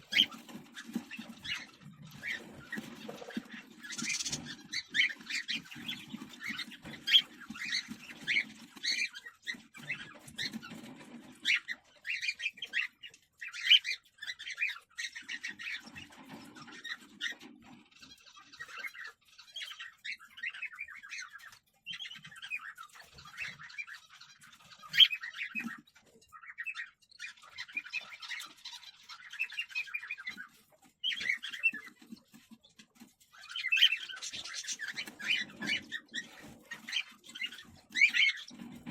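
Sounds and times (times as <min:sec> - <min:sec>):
cockatiels raspy chirping: 0:00.0 - 0:38.9.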